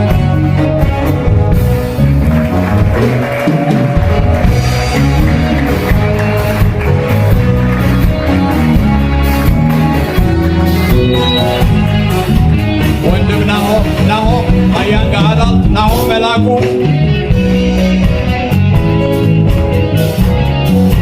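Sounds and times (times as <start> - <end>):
music with drums and guitar: 0.0 - 21.0.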